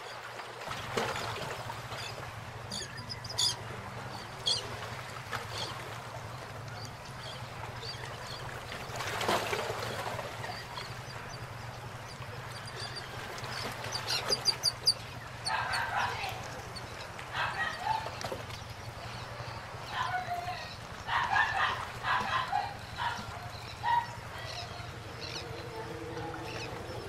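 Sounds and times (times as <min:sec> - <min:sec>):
steady low hum: 0:00.7 - 0:27.0.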